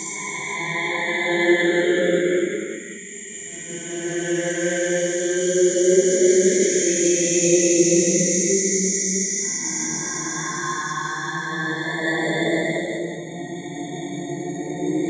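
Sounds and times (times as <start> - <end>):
dark ambient choir-like drone: 0.0 - 15.0.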